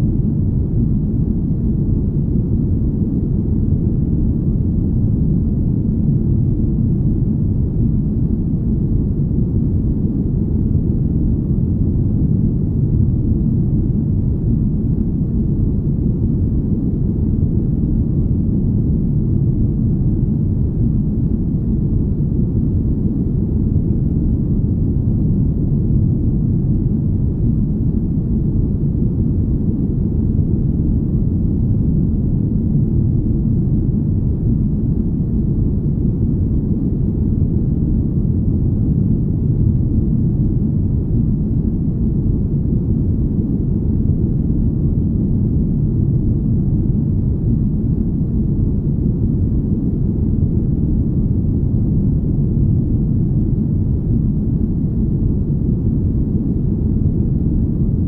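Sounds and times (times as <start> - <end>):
deep low engine hum: 0.0 - 58.0.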